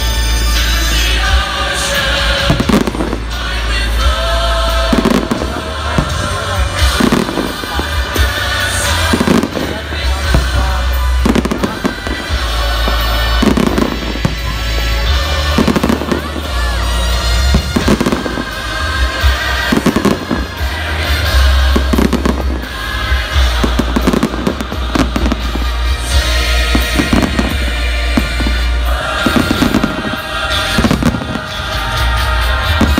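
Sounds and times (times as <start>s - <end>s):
fireworks bursting and crackling: 0.0s - 32.9s
music playing: 0.0s - 32.9s.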